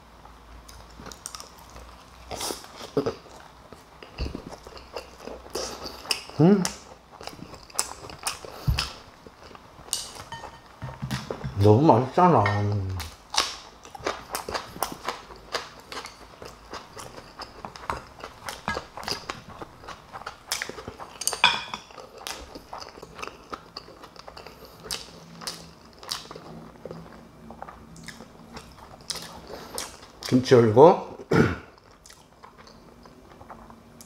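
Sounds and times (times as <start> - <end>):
low steady hum: 0.0 - 34.0
person chewing and biting: 0.6 - 11.4, 13.0 - 30.4, 31.7 - 34.0.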